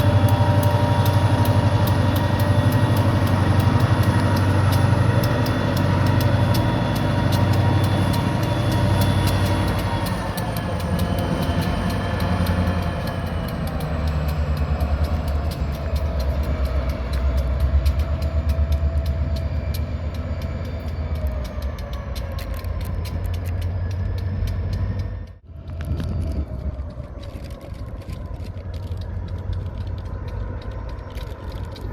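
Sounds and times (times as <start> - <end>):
diesel locomotive engine rumble: 0.0 - 31.9
rapid clicking: 0.0 - 31.9
turbo whine: 0.0 - 31.9.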